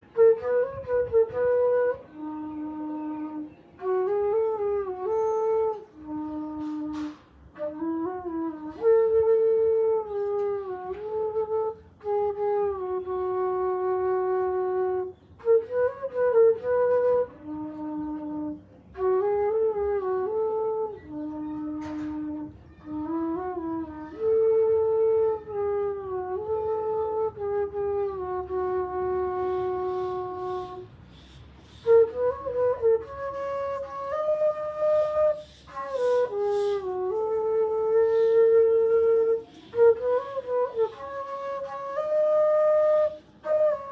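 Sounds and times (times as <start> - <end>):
flute playing slow melody: 0.0 - 43.9.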